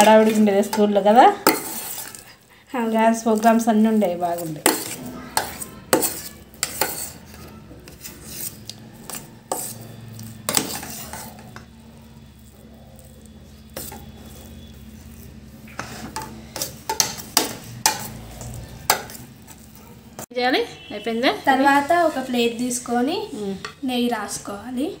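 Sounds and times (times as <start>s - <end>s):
spoon scraping metal bowl: 0.0s - 20.3s.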